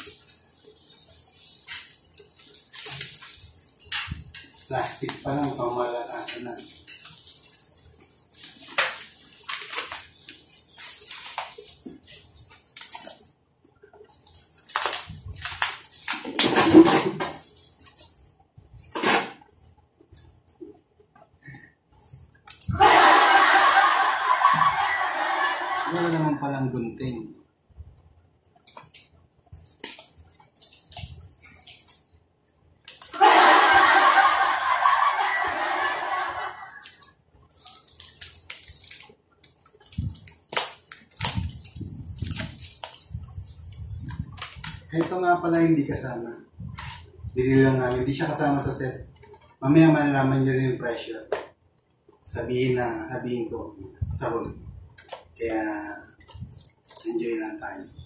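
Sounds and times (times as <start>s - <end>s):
plastic film crinkling: 0.0s - 20.4s, 22.0s - 26.5s, 28.5s - 50.3s, 54.0s - 57.9s.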